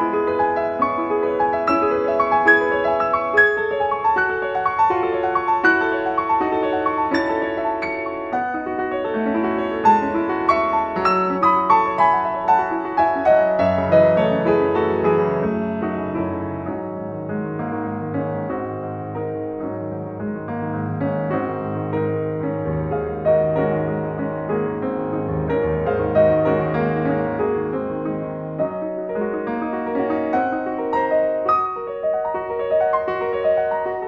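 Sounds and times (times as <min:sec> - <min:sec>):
piano bass notes: 0:00.0 - 0:34.0
piano melody: 0:00.0 - 0:34.0.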